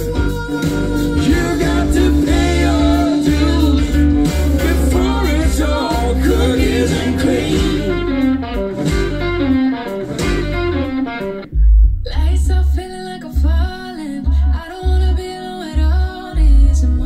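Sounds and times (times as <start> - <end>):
guitar music with deep bass: 0.0 - 17.0
pulsing bass notes: 0.0 - 17.0.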